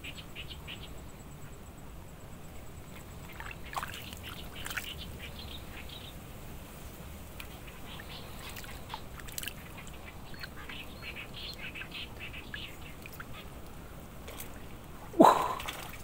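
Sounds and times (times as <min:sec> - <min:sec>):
bird calls: 0:00.0 - 0:01.6, 0:02.9 - 0:06.2, 0:07.4 - 0:16.0
steady outdoor hiss: 0:00.0 - 0:16.0.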